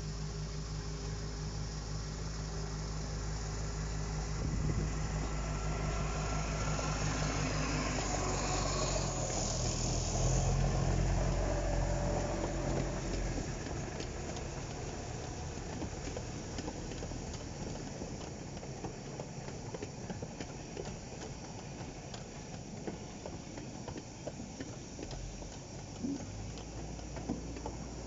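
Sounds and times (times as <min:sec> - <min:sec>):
diesel locomotive engine: 0:00.0 - 0:28.0
wheels rumbling on track: 0:00.0 - 0:28.0.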